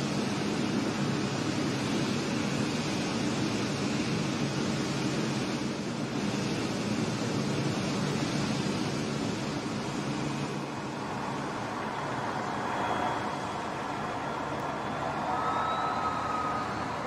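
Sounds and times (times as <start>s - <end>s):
faint high whine: 0.0s - 17.0s
jet engines rushing: 0.0s - 17.0s.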